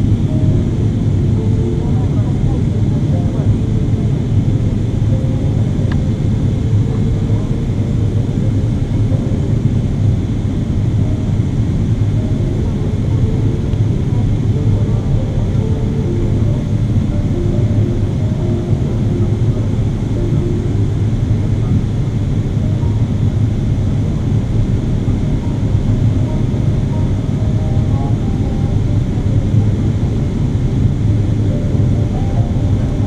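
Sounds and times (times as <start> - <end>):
airplane cabin engine roar: 0.0 - 33.0
rushing airflow: 0.0 - 33.0.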